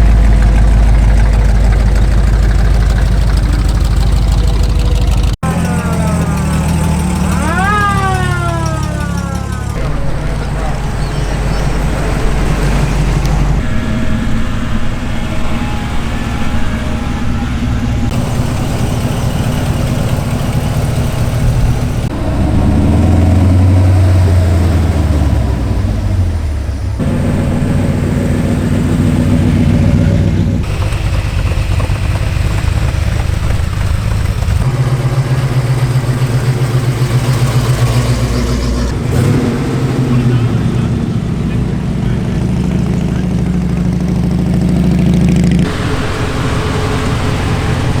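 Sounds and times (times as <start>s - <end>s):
car engines idling and revving: 0.0s - 48.0s.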